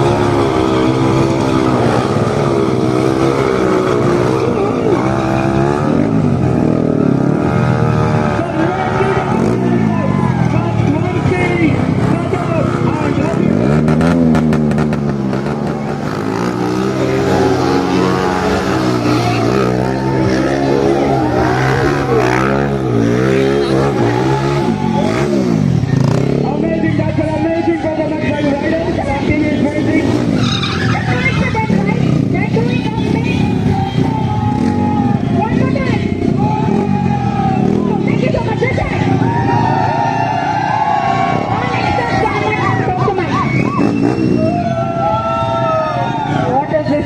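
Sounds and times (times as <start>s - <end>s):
motorcycle engines running: 0.0s - 47.0s.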